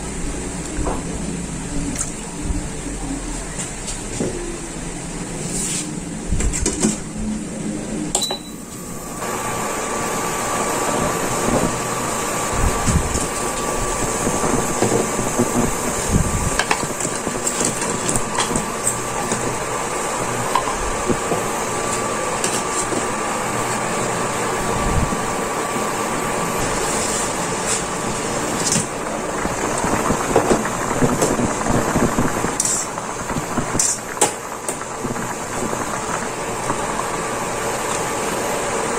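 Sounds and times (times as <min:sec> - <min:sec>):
water boiling in a pot: 0:00.0 - 0:03.8, 0:08.6 - 0:38.9.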